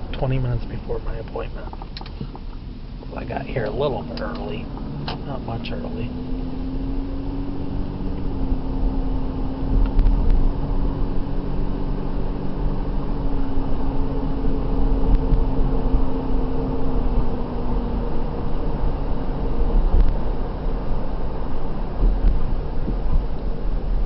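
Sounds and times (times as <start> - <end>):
car engine hum: 0.0 - 24.0
road rumble: 0.0 - 24.0.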